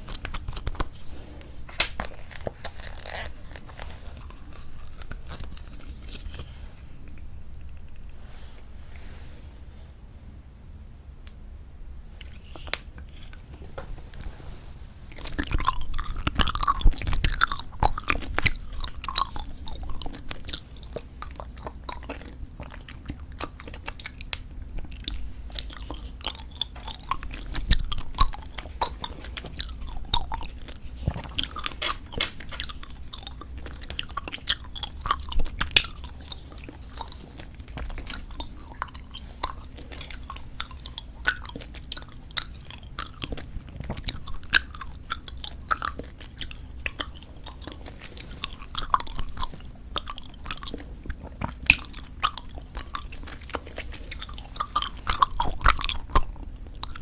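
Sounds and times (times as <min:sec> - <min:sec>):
wet chewing clicks and smacks: 0:00.0 - 0:06.5, 0:15.2 - 0:57.0.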